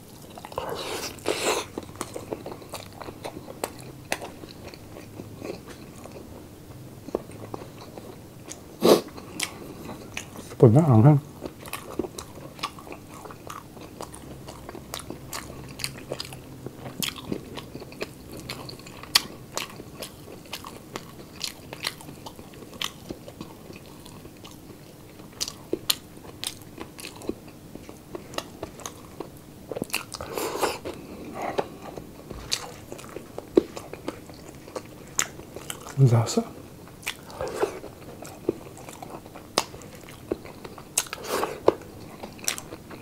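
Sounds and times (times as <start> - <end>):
crunchy chewing: 0.0 - 6.4, 7.0 - 10.6, 11.4 - 43.0.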